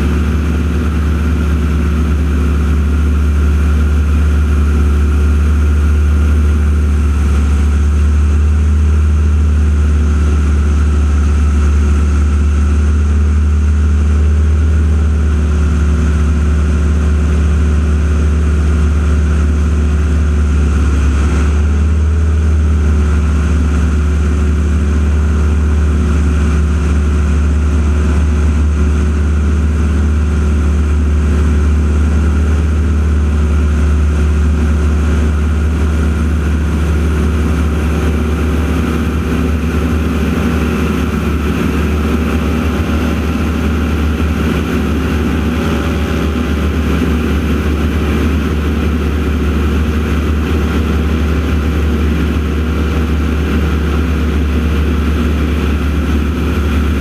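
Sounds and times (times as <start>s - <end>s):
radial piston engines droning overhead: 0.0s - 57.0s.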